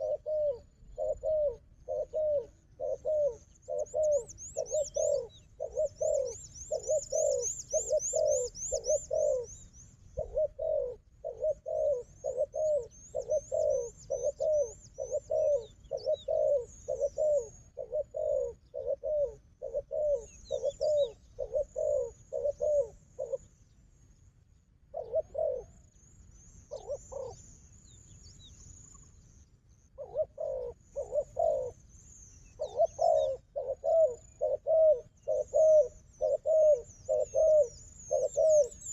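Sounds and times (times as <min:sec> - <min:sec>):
doves cooing: 0:00.0 - 0:23.6, 0:24.9 - 0:25.9, 0:26.7 - 0:27.5, 0:30.0 - 0:31.8, 0:32.5 - 0:38.9
small birds chirping: 0:00.0 - 0:38.9.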